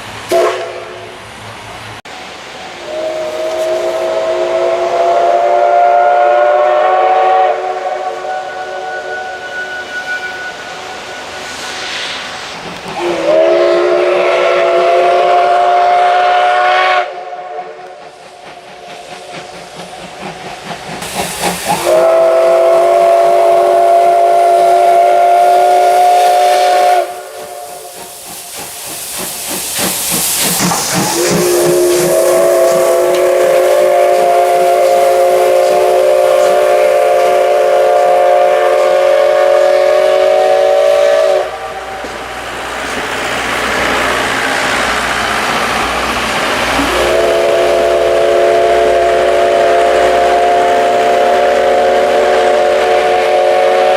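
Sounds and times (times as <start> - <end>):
steam hissing: 0.0 - 53.9
steam locomotive whistle: 0.3 - 1.2, 2.8 - 18.1, 21.0 - 28.1, 30.5 - 43.0, 46.5 - 53.9.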